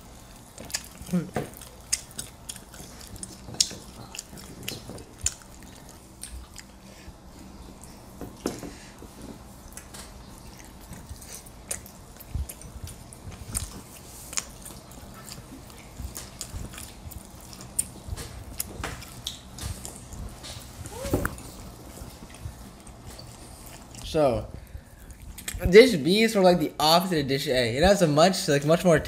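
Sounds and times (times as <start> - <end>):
people chewing: 0.0 - 26.0.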